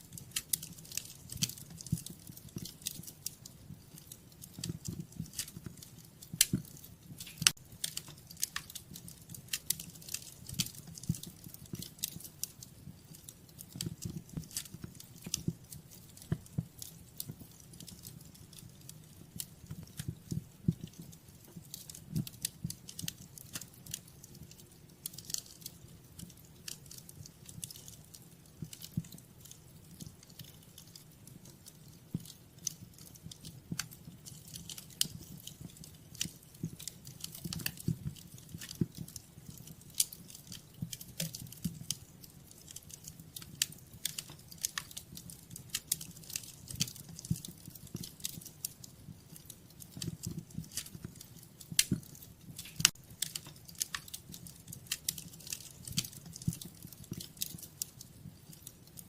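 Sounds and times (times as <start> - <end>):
low rumble of burning logs: 0.0 - 59.0
wood fire snaps: 0.0 - 59.0.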